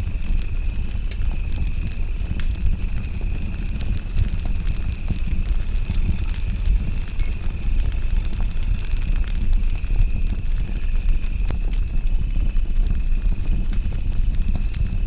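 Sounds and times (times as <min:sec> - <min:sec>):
campfire crackling and popping: 0:00.0 - 0:15.0
crickets trilling: 0:00.0 - 0:15.0.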